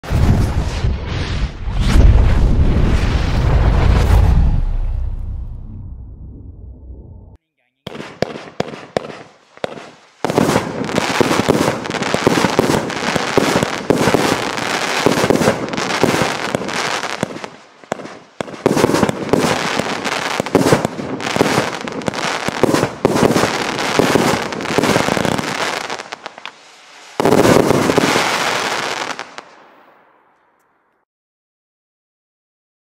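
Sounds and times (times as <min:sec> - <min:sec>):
fireworks launching and bursting: 0:00.0 - 0:30.5.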